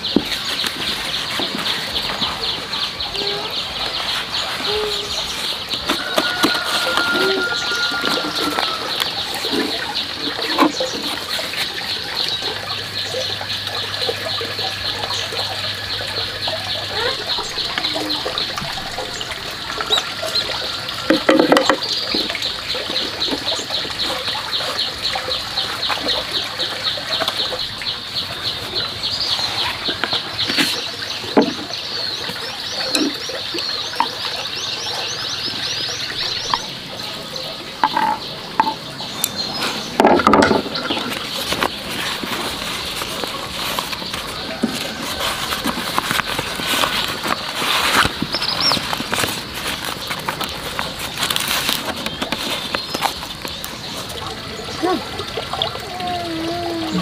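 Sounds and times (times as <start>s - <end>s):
leaves crinkling and rustling: 0.0s - 57.0s.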